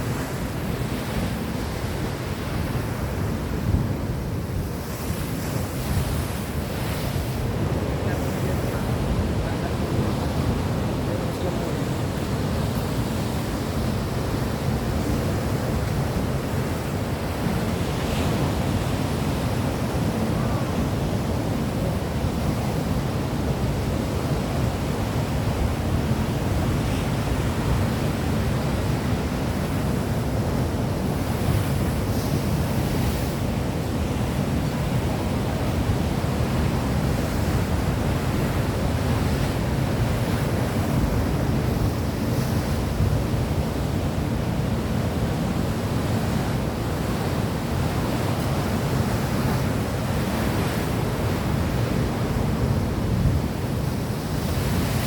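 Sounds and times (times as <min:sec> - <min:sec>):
surf: 0:00.0 - 0:55.0.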